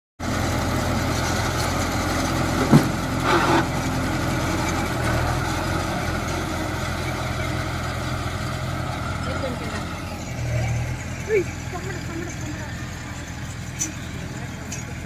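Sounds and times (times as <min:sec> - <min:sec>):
tractor diesel engine running: 0:00.2 - 0:15.0.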